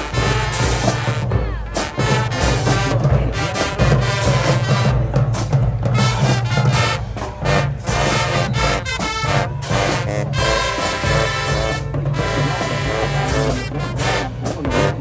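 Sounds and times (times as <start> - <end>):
brass horns: 0.0 - 15.0
marching band playing: 0.0 - 15.0.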